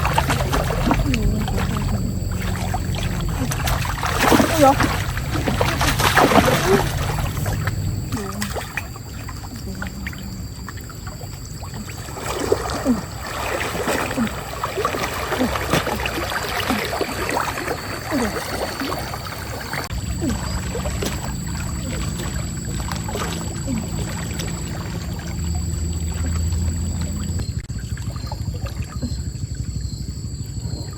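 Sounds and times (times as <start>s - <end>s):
stream water splashing and gurgling: 0.0s - 30.9s.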